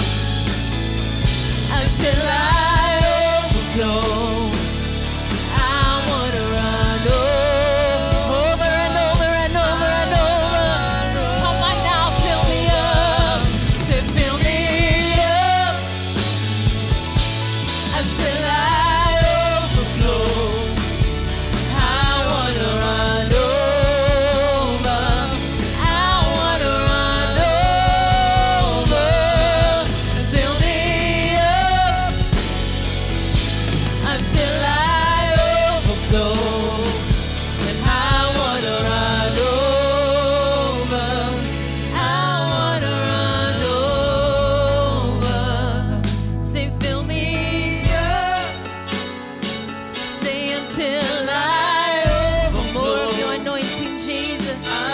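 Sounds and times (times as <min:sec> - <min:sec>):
low bass accompaniment: 0:00.0 - 0:48.9, 0:52.1 - 0:53.0
drum kit: 0:00.0 - 0:54.9
person singing: 0:01.7 - 0:54.9.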